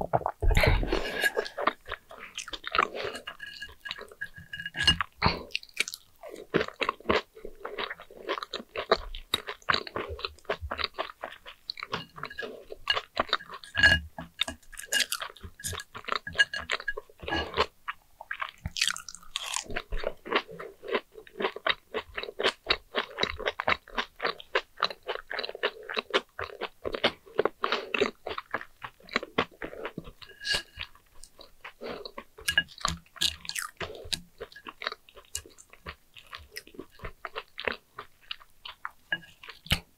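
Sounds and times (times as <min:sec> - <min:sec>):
crunchy chewing: 0:00.2 - 0:39.9.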